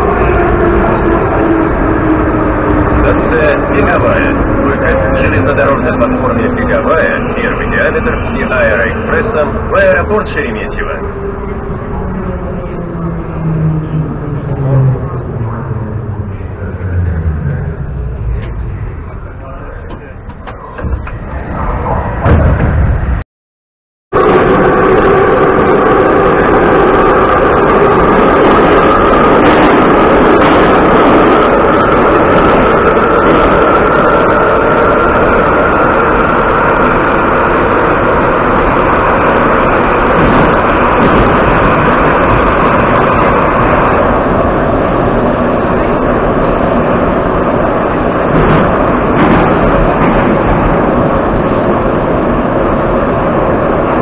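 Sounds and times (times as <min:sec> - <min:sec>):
metro train interior roar: 0:00.0 - 0:23.2, 0:24.1 - 0:54.0.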